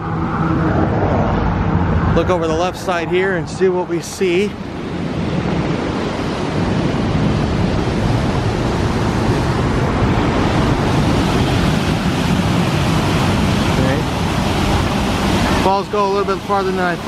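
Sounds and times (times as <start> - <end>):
waterfall rushing: 2.2 - 17.0.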